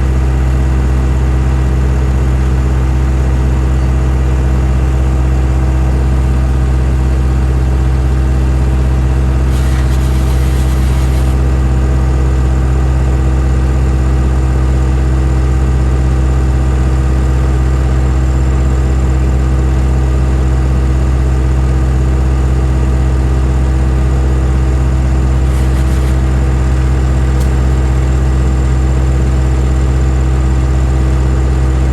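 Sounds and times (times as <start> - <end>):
farm machinery engine droning: 0.0 - 31.9.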